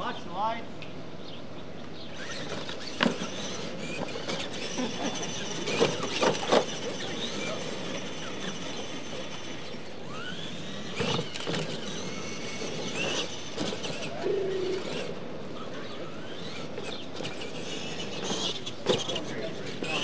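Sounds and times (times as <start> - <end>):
toy truck motor and gears whining: 1.9 - 20.0.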